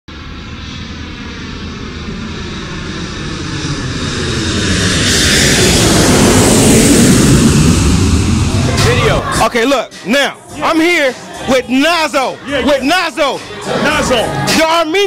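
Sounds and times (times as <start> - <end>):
whoosh of noise: 0.1 - 12.3.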